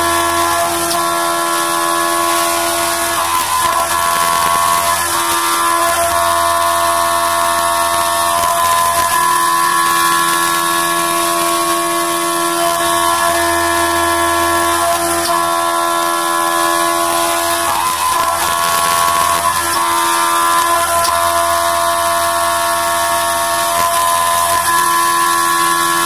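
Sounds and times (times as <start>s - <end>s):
coolant hiss: 0.0s - 26.0s
milling machine cutter whine: 0.0s - 26.0s.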